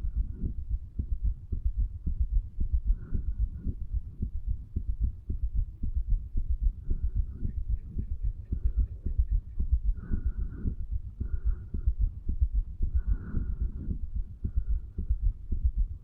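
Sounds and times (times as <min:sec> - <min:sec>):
heartbeat thumps: 0:00.0 - 0:16.0.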